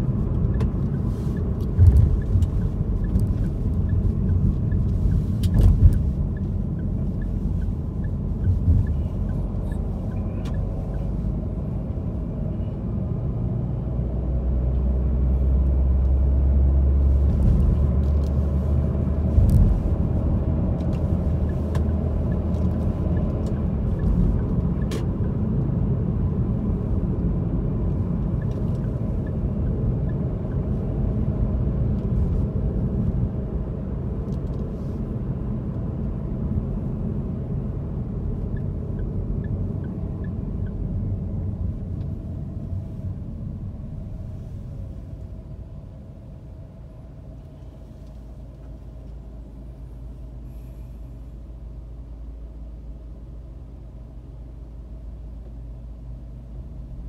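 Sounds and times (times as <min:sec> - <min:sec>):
engine and road noise rumble: 0:00.0 - 0:57.0.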